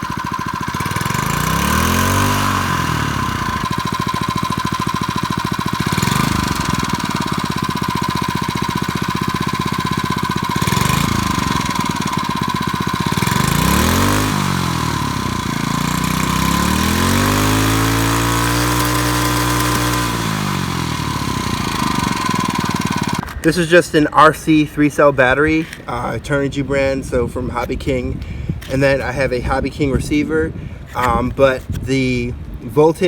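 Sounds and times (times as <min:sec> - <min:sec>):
small engine idling and revving: 0:00.0 - 0:24.3, 0:25.0 - 0:32.6.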